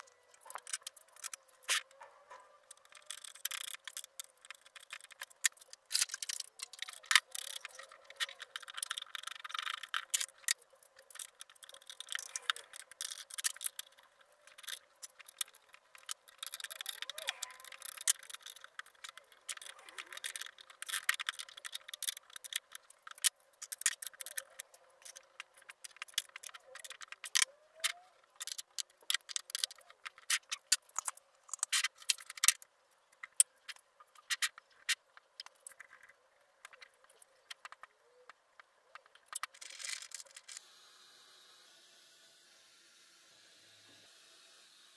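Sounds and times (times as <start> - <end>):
metal parts clicking and rattling: 0.0 - 38.3, 38.9 - 40.6.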